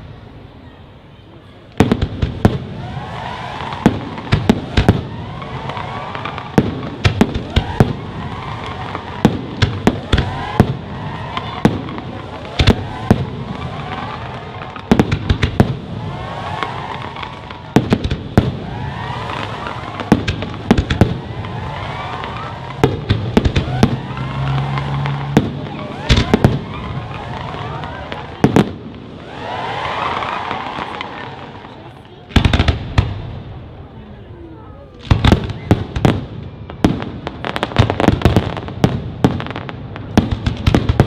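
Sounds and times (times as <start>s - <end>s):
fireworks show background din: 0.0s - 41.0s.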